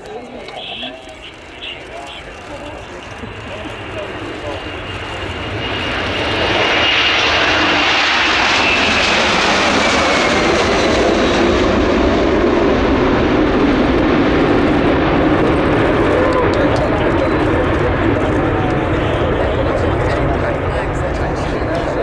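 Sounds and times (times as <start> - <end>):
high jet whine: 0.0 - 22.0
jet engines at take-off thrust: 0.0 - 22.0.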